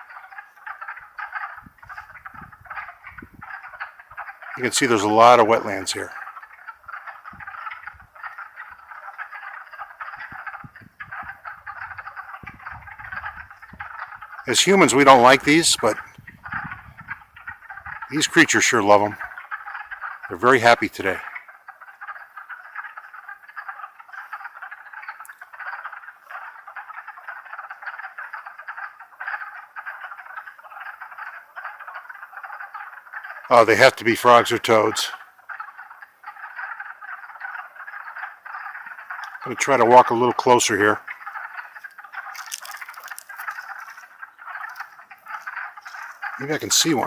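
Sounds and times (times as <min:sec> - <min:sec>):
frog chorus clucking: 0:00.0 - 0:47.0.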